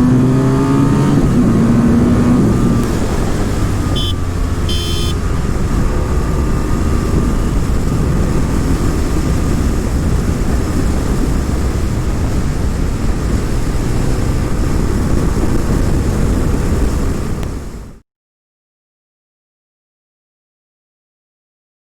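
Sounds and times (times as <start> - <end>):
motorcycle engine running: 0.0 - 17.8
wind rush on microphone: 0.0 - 18.0.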